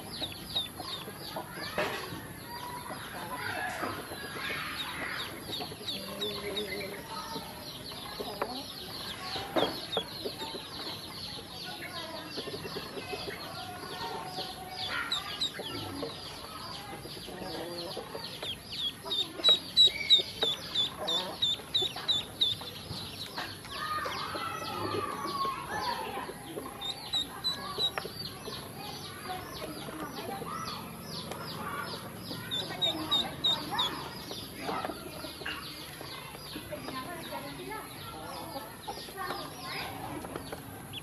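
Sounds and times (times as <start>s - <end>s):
ducklings peeping: 0.0s - 41.0s.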